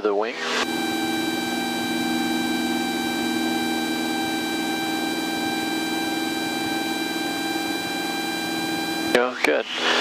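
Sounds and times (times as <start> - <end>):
aircraft engine and propeller droning: 0.4 - 9.2.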